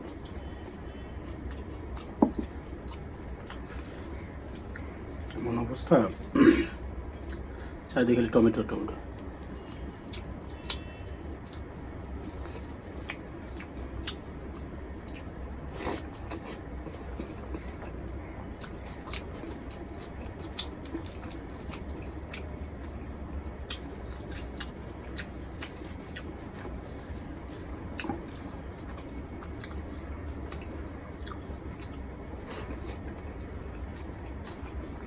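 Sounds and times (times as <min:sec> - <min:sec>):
person chewing: 0:00.0 - 0:05.4, 0:07.1 - 0:07.8, 0:09.0 - 0:35.0
steady low hum: 0:00.0 - 0:35.0.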